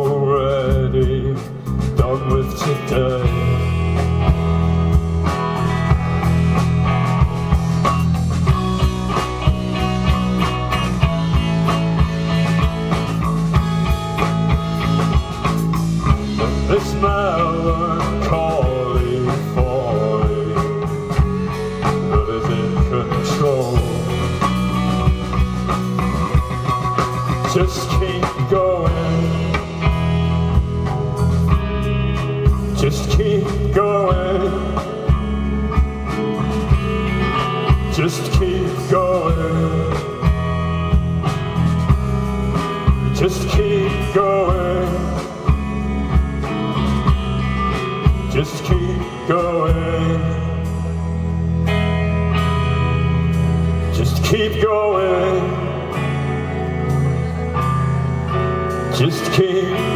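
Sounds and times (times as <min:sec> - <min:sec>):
bass guitar: 0:00.0 - 0:59.9
electric guitar bending lines: 0:00.0 - 0:59.9
steady drum beat: 0:00.0 - 0:59.9.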